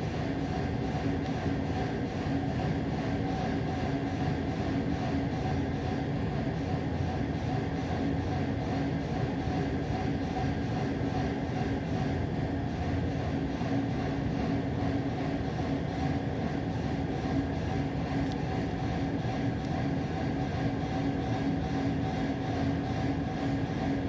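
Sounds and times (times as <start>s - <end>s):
low mechanical rumble with hum: 0.0s - 24.0s.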